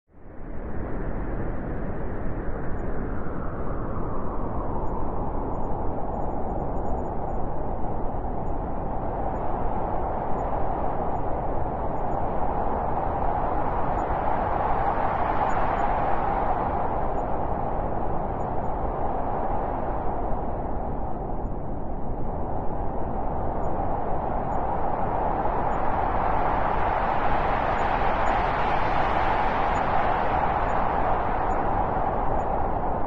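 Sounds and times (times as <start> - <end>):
howling blizzard wind: 0.1 - 33.0.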